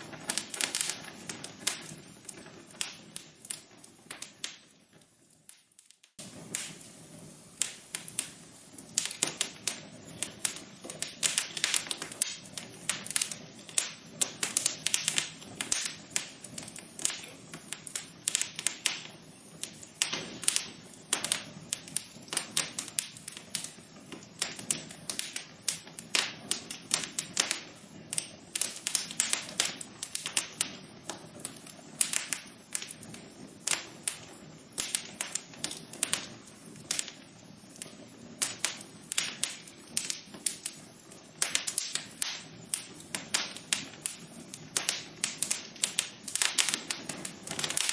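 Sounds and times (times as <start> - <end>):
low steady hiss: 0.0 - 47.9
wood fire crackling: 0.0 - 47.9.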